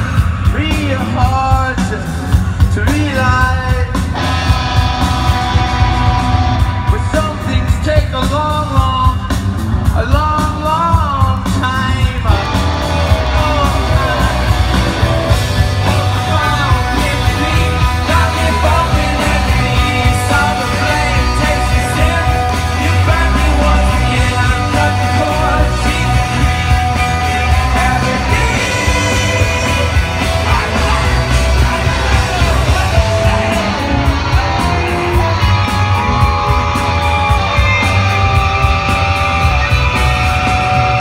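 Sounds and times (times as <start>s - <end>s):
man singing: 0.0s - 4.3s, 6.8s - 41.0s
rock band playing live: 0.0s - 41.0s.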